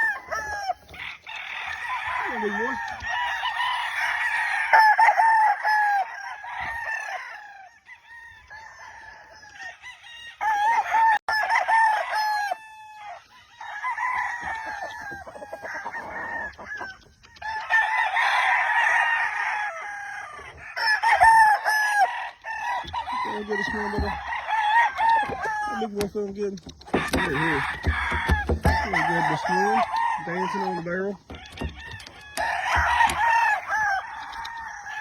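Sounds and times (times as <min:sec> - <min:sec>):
roosters crowing: 0:00.0 - 0:35.0.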